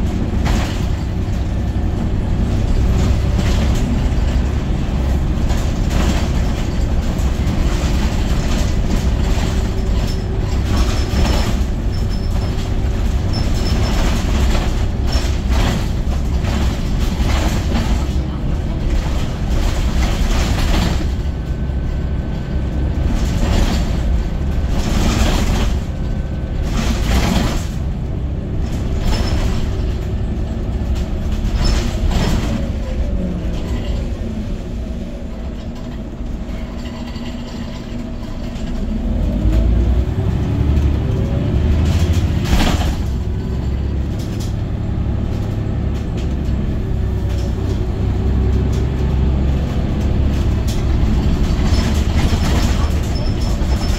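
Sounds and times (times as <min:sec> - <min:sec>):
bodywork rattles and knocks: 0:00.0 - 0:34.1, 0:35.4 - 0:53.9
bus engine droning: 0:00.0 - 0:53.9.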